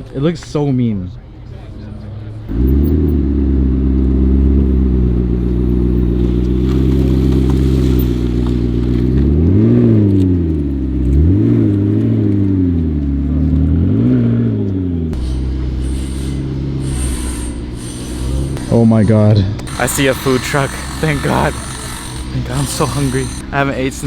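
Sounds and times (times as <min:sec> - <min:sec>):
car engine idling and revving: 0:00.8 - 0:24.0.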